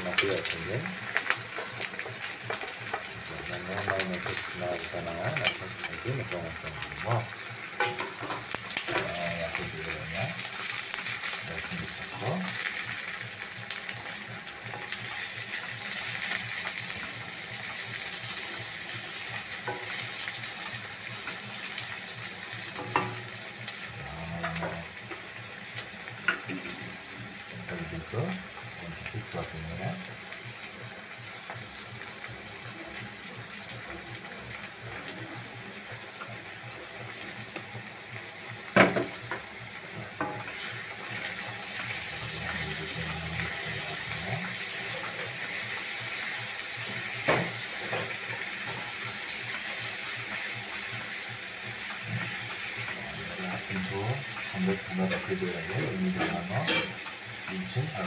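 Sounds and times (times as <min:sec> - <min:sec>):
onions sizzling in hot oil: 0:00.0 - 0:58.0.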